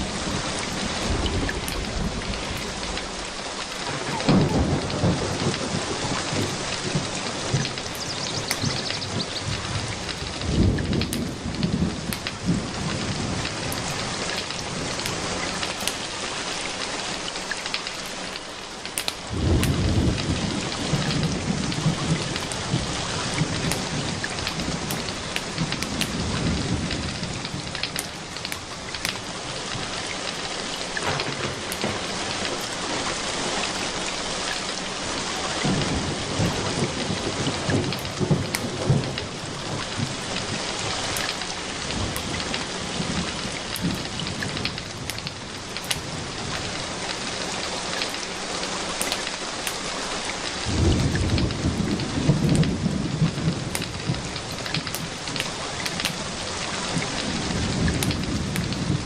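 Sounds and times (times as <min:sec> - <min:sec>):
steady rain: 0:00.0 - 0:59.0
thunder rumbling: 0:00.0 - 0:59.0
wood fire crackling: 0:00.0 - 0:59.0.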